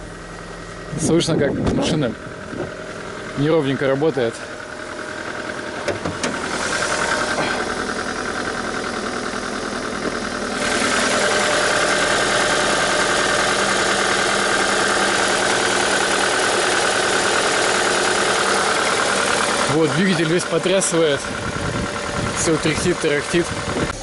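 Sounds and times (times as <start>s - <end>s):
car engine idling unevenly: 0.0s - 24.0s.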